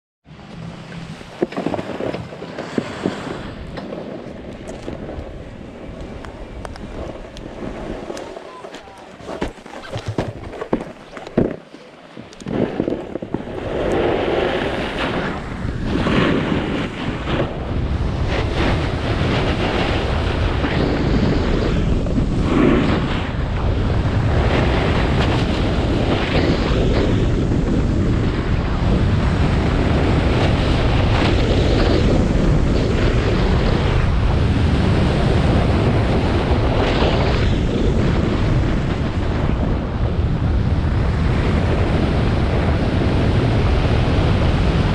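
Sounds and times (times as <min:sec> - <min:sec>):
snowboard sliding over snow: 0:00.3 - 0:44.9
wind buffeting microphone: 0:00.3 - 0:44.9.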